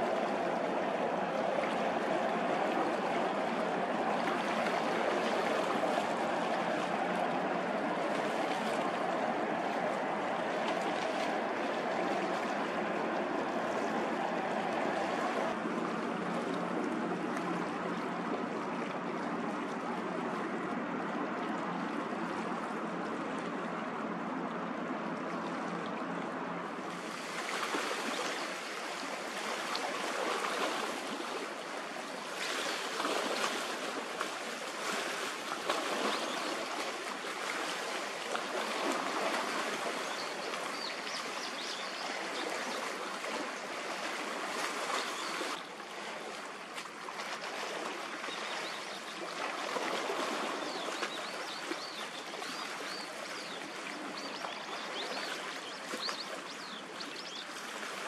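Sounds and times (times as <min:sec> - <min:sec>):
water lapping and splashing: 0:00.0 - 0:58.0.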